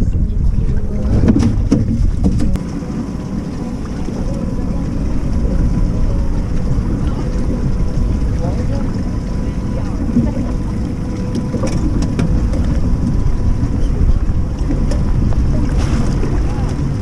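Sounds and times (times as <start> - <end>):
faint steady hum: 0.0 - 17.0
wind buffeting microphone: 0.0 - 17.0.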